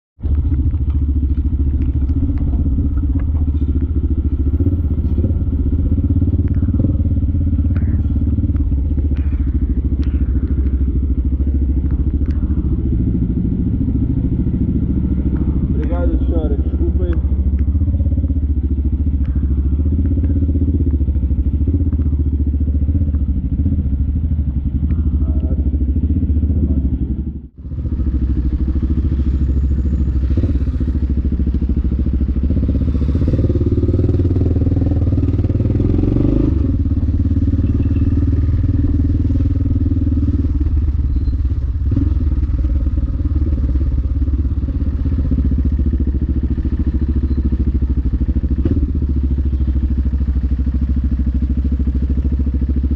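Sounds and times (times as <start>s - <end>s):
motorcycle engine running: 0.2s - 52.9s.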